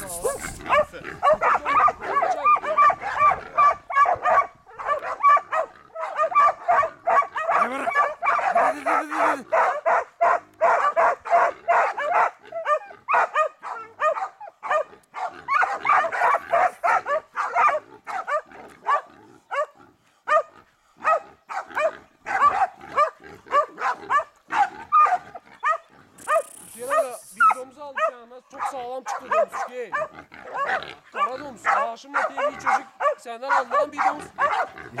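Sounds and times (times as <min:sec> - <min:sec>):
dogs barking and yelping: 0:00.0 - 0:35.0.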